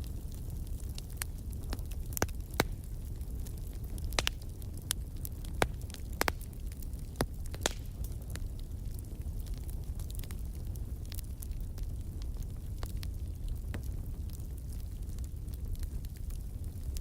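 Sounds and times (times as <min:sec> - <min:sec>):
firewood popping and snapping: 0:00.0 - 0:17.0
low rumble of fire: 0:00.0 - 0:17.0.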